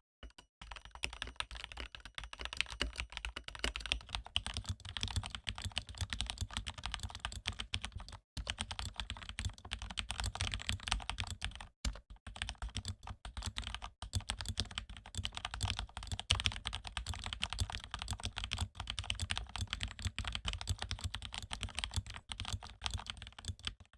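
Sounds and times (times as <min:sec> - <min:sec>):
mechanical keyboard typing: 0:00.2 - 0:23.9.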